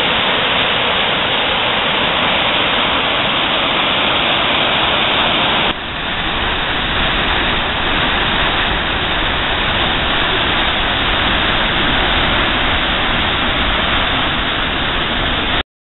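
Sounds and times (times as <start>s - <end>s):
waterfall and rapids rushing: 0.0s - 15.6s.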